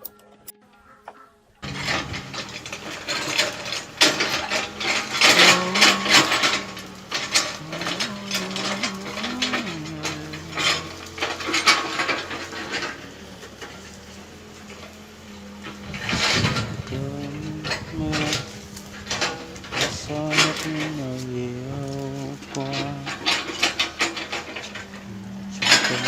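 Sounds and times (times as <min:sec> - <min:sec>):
mechanical clattering and clicking: 0:01.6 - 0:26.0
steady machine hum: 0:01.6 - 0:26.0.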